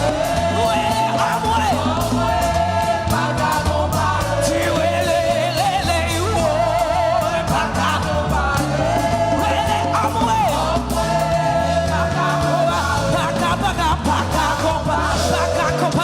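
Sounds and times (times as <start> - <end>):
band with bass and drums: 0.0 - 16.0
person singing with vibrato: 0.0 - 16.0.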